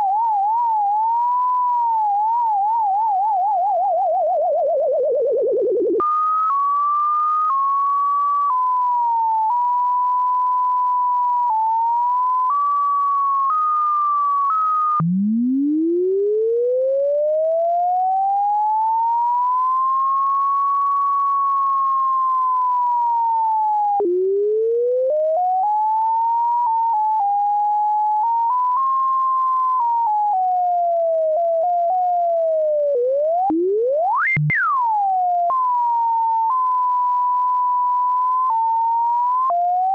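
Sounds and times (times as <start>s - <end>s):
sine tone changing pitch: 0.0s - 39.9s.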